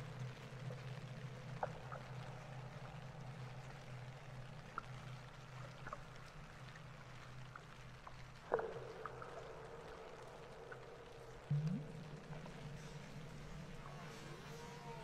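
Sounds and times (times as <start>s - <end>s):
rainwater dripping and trickling: 0.0s - 15.0s.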